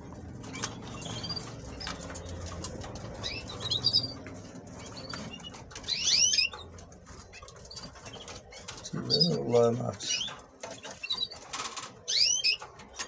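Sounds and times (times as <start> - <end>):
canaries chirping: 0.0 - 13.0.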